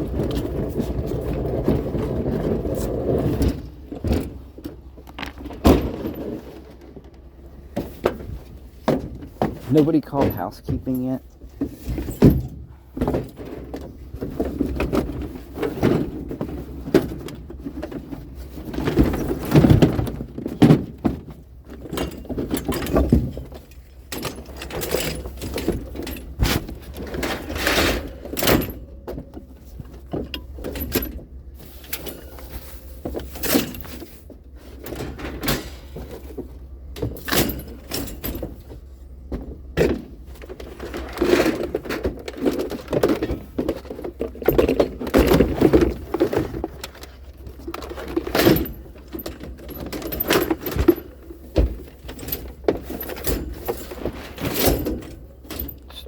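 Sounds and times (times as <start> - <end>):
objects knocking and rattling: 0.0 - 56.0.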